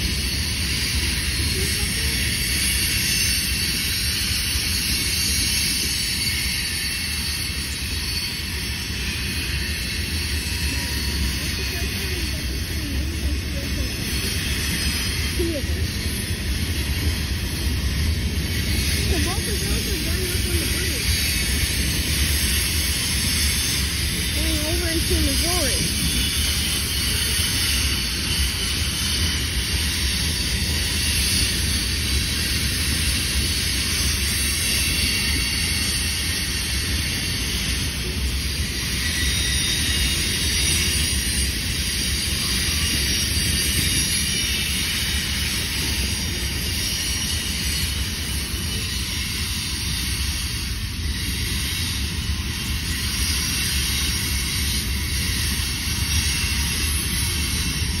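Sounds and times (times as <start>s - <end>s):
distant freight train rolling: 0.0s - 58.0s.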